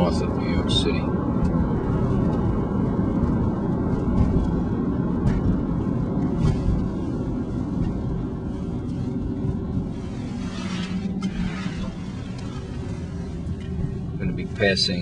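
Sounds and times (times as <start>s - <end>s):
car driving rumble from inside: 0.0s - 15.0s.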